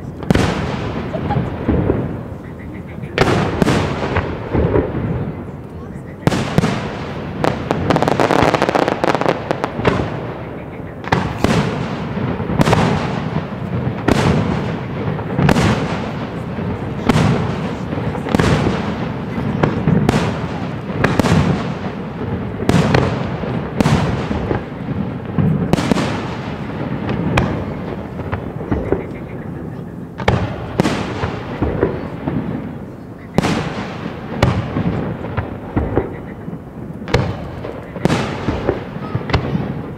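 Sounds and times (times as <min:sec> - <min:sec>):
firework crackle: 0:00.0 - 0:39.9.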